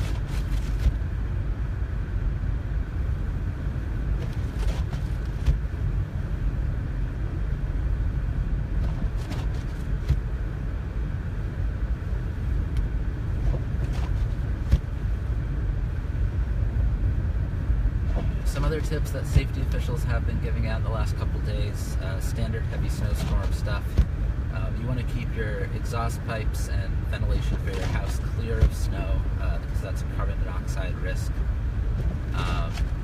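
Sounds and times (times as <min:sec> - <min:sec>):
car cabin road rumble: 0:00.0 - 0:33.0.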